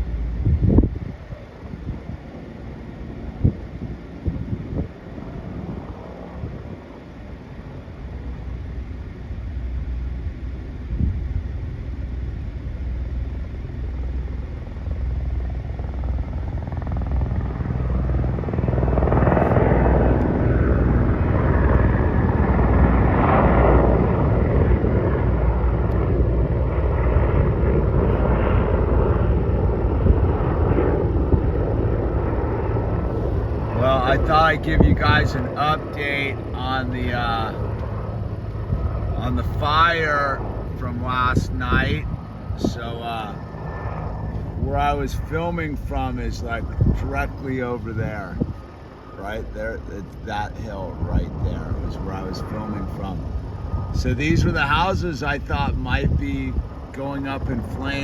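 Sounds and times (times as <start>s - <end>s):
helicopter rotor rumble: 0.0s - 58.0s.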